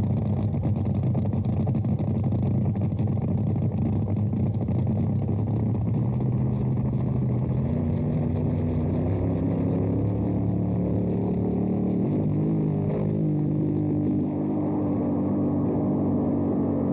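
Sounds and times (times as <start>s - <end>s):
drag boat engine running: 0.0s - 16.9s.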